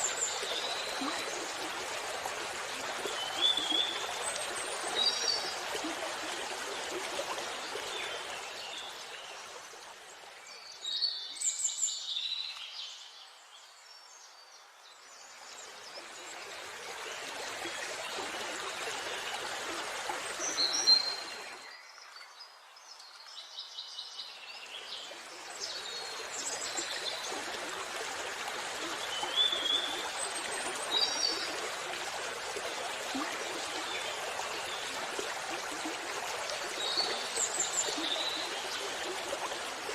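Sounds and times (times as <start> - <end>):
flowing water: 0.0 - 13.3, 15.0 - 39.9.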